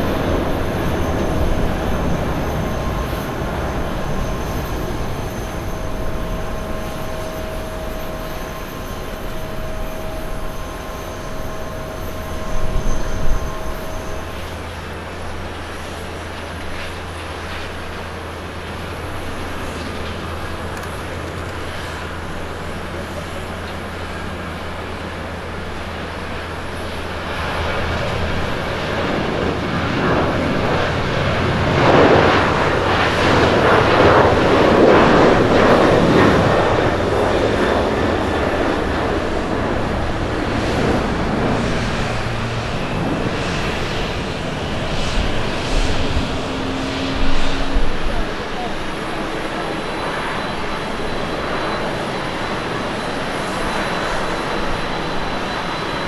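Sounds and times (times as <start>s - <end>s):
jet engines at takeoff: 0.0s - 56.0s.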